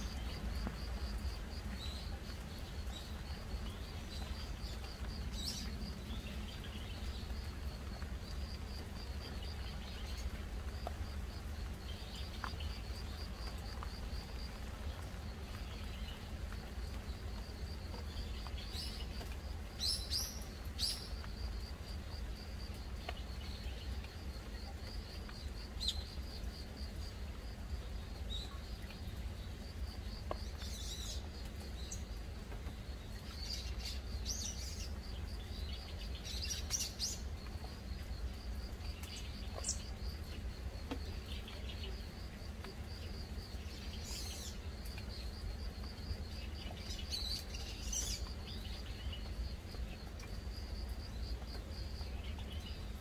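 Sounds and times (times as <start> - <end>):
gentle rain hiss: 0.0 - 53.0.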